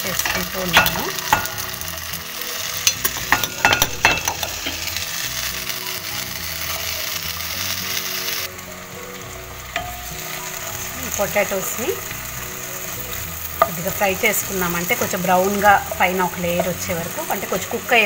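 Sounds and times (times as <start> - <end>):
potatoes sizzling in hot oil: 0.0 - 18.0.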